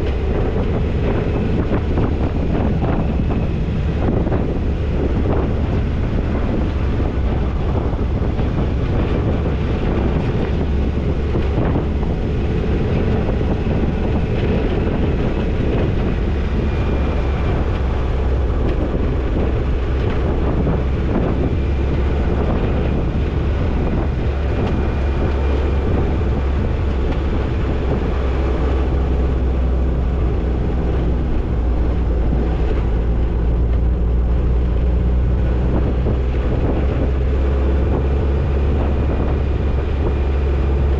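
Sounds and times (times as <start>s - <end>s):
car engine running: 0.0s - 40.9s
low rumble of road and wind noise: 0.0s - 40.9s.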